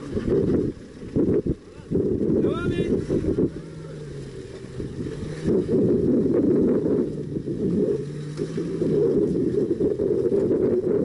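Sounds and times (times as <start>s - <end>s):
truck engine running under load: 0.0s - 11.0s
wind rumble on microphone: 0.0s - 11.0s.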